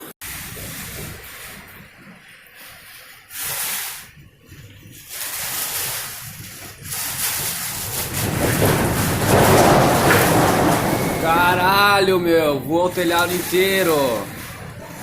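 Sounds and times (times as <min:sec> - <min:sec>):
wind-driven rain hissing: 0:00.0 - 0:15.0
storm wind gusting: 0:00.2 - 0:15.0.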